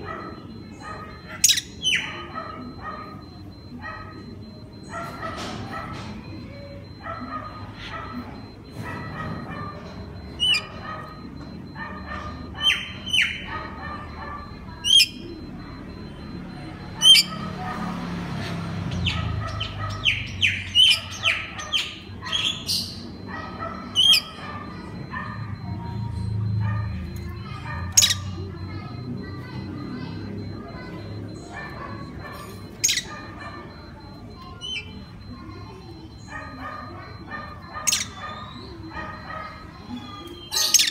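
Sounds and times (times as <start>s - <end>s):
magpie-robin singing: 0.1s - 3.4s, 9.0s - 35.2s, 36.3s - 40.9s.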